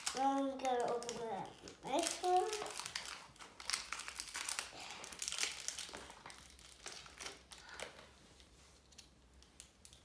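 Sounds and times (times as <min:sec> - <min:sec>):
plastic wrapper crinkling: 0:00.0 - 0:10.0.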